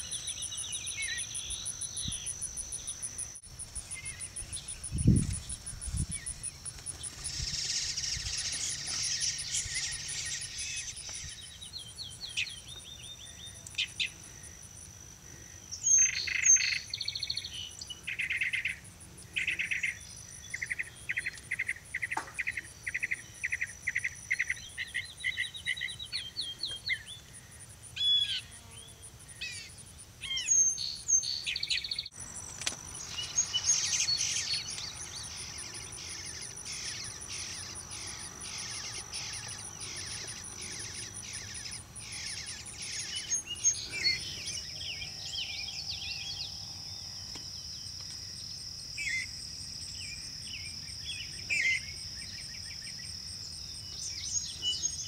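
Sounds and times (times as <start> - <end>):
birds chirping and calling: 0.0 - 14.6, 15.8 - 27.4, 29.3 - 48.3
high insect trill: 0.0 - 55.0.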